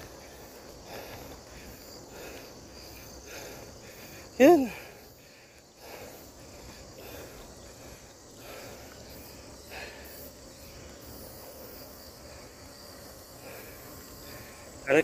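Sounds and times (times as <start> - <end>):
man breathing: 0.0 - 14.8.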